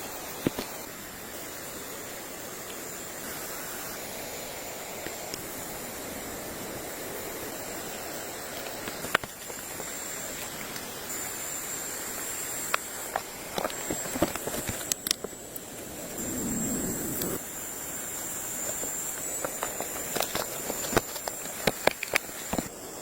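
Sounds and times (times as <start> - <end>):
thin high whine: 0.0 - 23.0.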